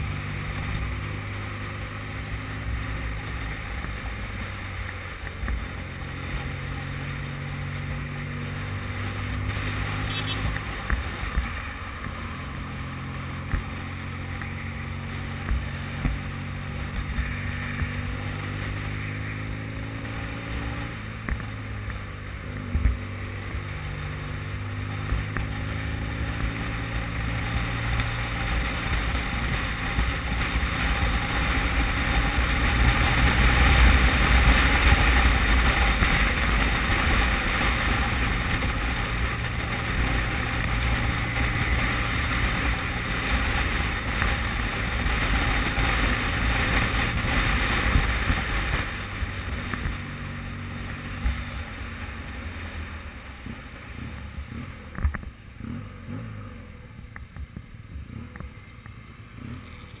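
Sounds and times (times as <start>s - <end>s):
motorcycle engine running: 0.0s - 60.0s
tyres on wet road: 0.0s - 60.0s.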